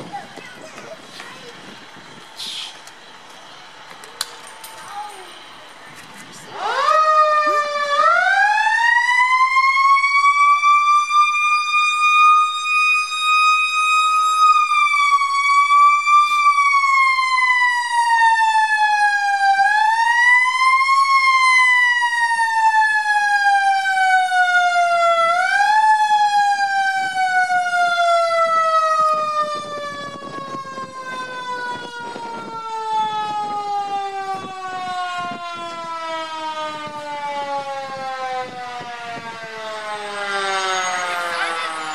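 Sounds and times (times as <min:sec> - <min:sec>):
fire truck siren wailing: 0:01.8 - 0:41.9.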